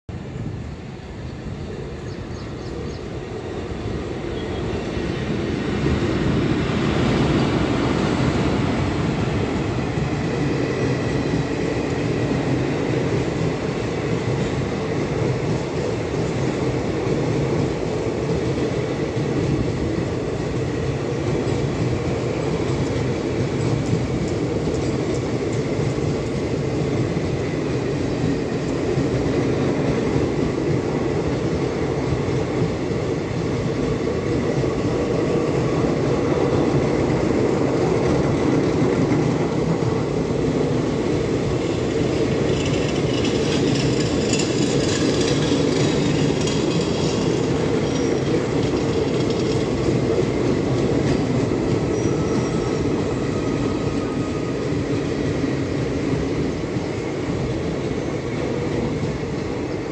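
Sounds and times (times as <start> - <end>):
train wheels running on rails: 0.1 - 59.9.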